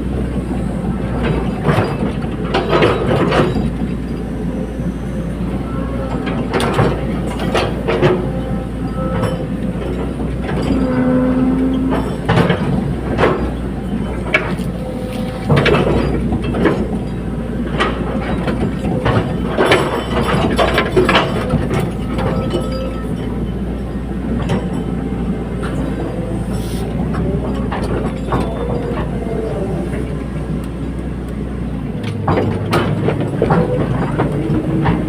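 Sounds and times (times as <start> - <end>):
excavator engine running: 0.0 - 35.0
metallic clanks and knocks: 1.2 - 4.3, 6.0 - 35.0.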